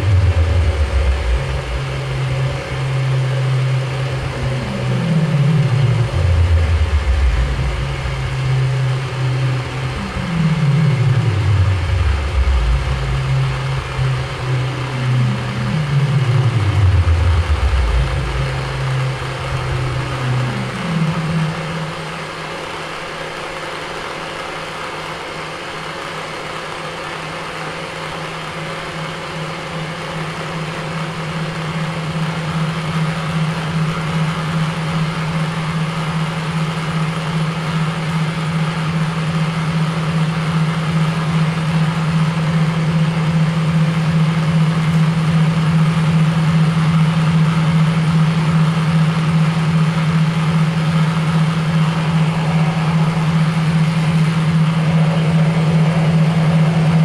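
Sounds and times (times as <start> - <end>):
low droning pulsing hum: 0.0 - 57.0.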